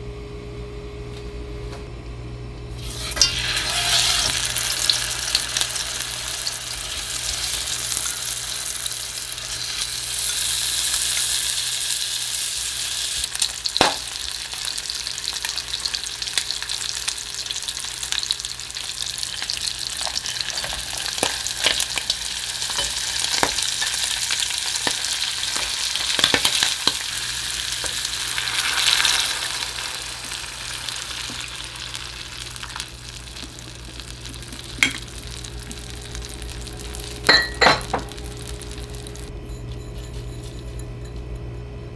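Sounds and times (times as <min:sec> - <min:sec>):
bacon sizzling: 0:02.8 - 0:39.3.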